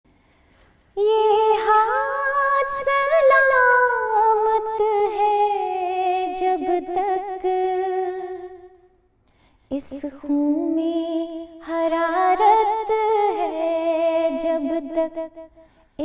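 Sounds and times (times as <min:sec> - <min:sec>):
woman singing wordless melody: 0:01.0 - 0:08.8, 0:09.7 - 0:16.0.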